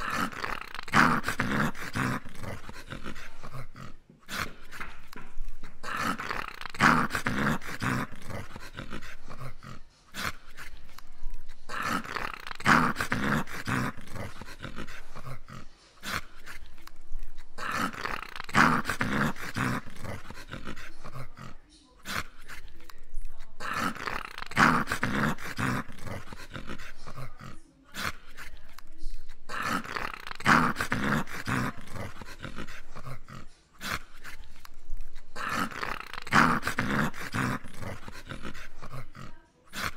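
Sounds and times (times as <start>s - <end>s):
dog snoring: 0.0s - 10.7s, 11.7s - 16.6s, 17.6s - 22.6s, 23.6s - 28.3s, 29.5s - 34.4s, 35.3s - 39.9s.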